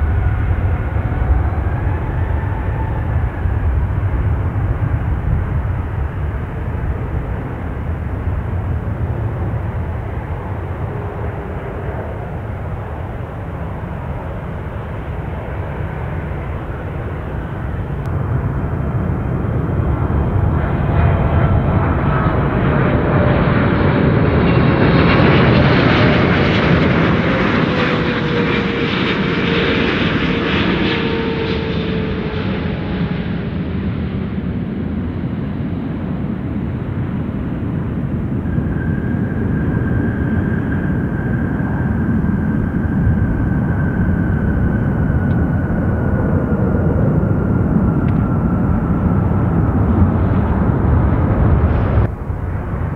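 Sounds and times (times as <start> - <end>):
jet airliner passing: 0.0 - 52.9.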